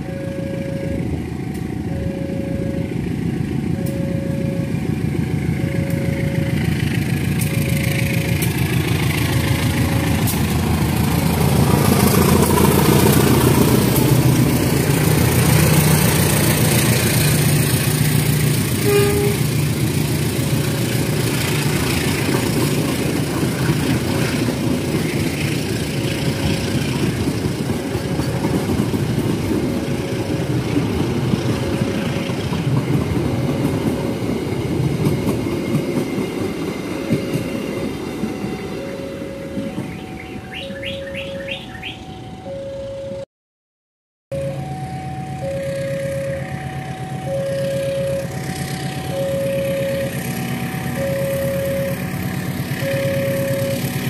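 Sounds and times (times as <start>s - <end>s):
train wheels on rails: 0.0s - 42.1s, 44.6s - 54.0s
locomotive engine: 0.0s - 43.2s, 44.3s - 54.0s.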